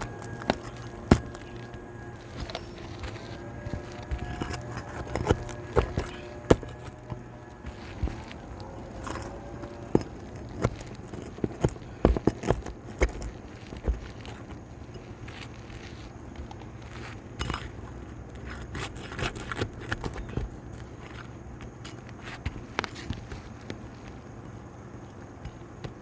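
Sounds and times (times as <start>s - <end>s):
hand tool prying roof shingles: 0.0s - 23.8s.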